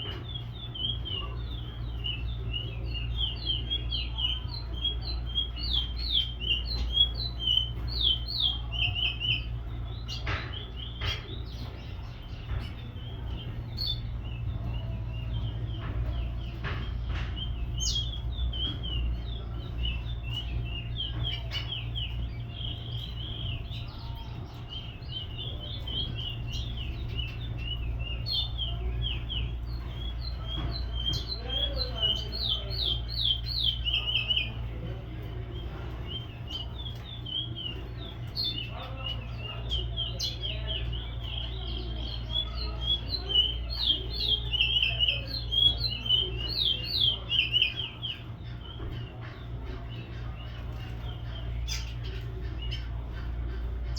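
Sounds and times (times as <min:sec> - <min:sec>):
cage birds chirping: 0:00.0 - 0:53.9
steady low hum: 0:00.0 - 0:53.9.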